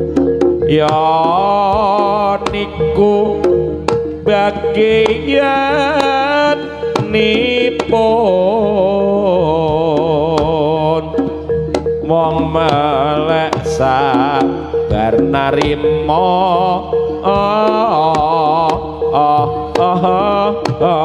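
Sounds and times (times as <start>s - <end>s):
ornamented melody line: 0.0s - 21.0s
steady held tone: 0.0s - 21.0s.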